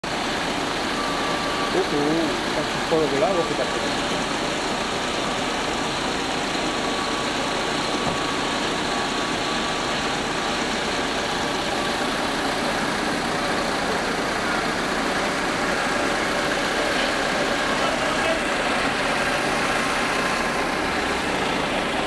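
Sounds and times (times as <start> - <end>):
road traffic noise: 0.0 - 22.0
vehicle engine idling: 0.0 - 22.0.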